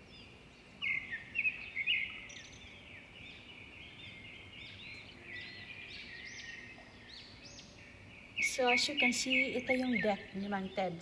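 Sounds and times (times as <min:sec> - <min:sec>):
flock of small birds chirping: 0:00.0 - 0:11.0.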